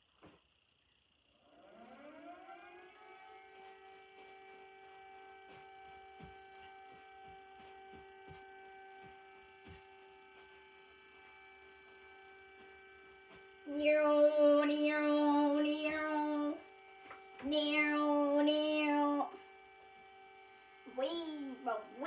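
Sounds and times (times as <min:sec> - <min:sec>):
warning siren winding up: 0:01.4 - 0:22.0.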